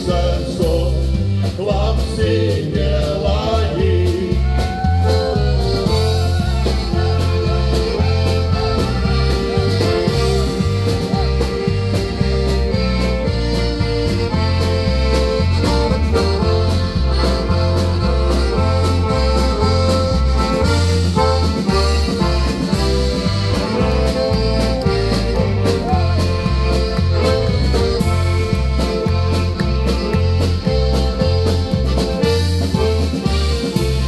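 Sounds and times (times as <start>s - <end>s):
accordion: 0.0s - 34.0s
bass line: 0.0s - 34.0s
drum beat: 3.3s - 34.0s.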